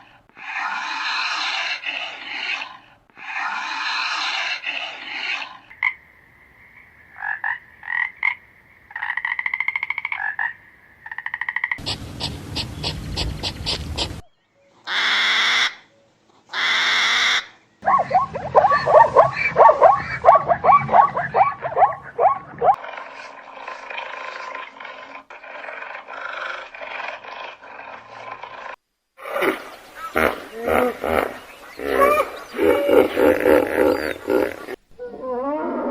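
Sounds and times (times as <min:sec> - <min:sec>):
animal calls: 0:00.0 - 0:06.0, 0:11.2 - 0:15.9, 0:16.5 - 0:35.9.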